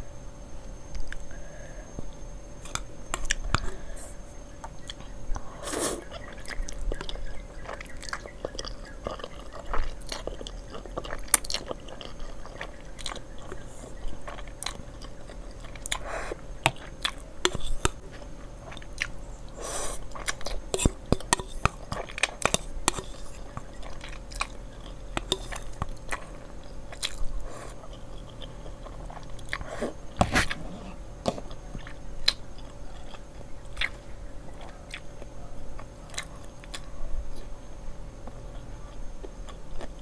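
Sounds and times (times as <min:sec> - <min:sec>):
person chewing noodles: 0:04.7 - 0:37.5, 0:38.4 - 0:40.0.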